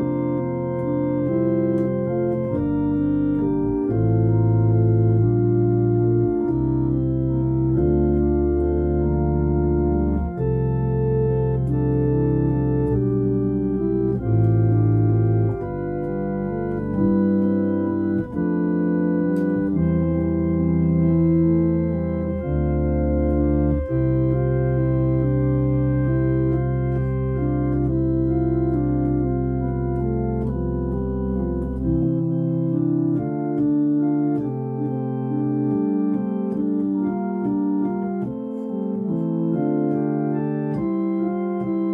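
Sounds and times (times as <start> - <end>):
deep bass notes: 0.0 - 41.9
organ playing sustained chords: 0.0 - 41.9.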